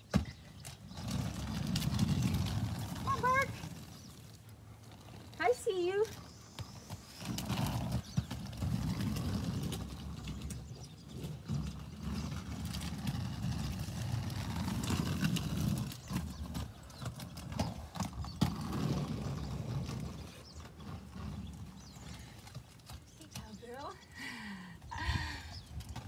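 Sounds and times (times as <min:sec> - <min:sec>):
roller skate wheels on asphalt: 0:00.0 - 0:26.0.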